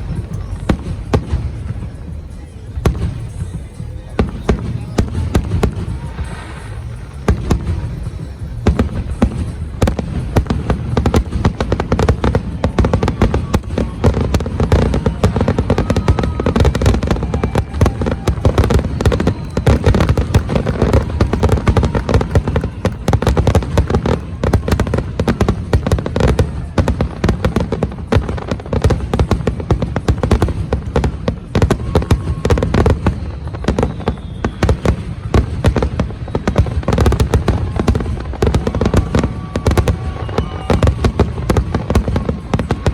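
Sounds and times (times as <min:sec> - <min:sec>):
fireworks booming and crackling: 0:00.0 - 0:42.9.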